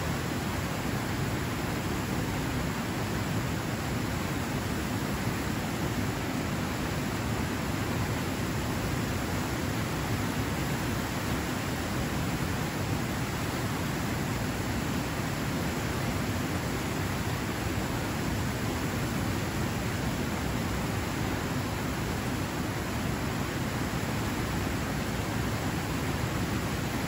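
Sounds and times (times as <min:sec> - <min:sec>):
waterfall pouring over rocks: 0:00.0 - 0:27.0.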